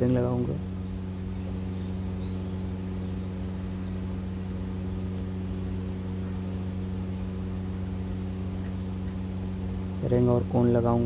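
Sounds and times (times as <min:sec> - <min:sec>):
steady low machine hum: 0:00.0 - 0:11.0.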